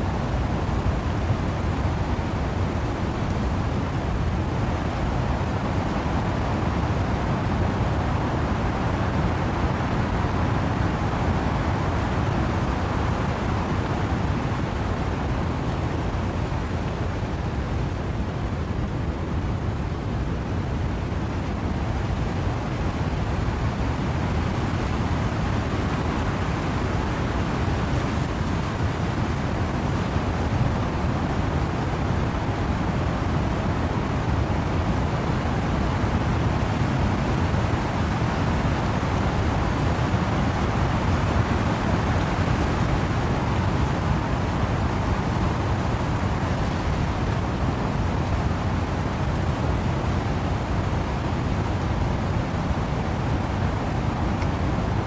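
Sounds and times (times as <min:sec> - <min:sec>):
wind and rain in trees: 0:00.0 - 0:55.0.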